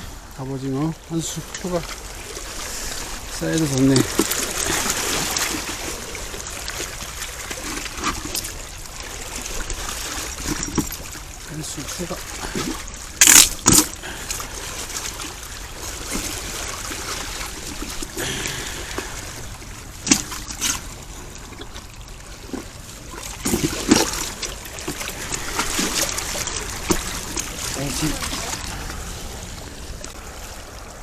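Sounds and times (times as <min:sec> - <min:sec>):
water trickling and lapping: 0:00.0 - 0:31.0.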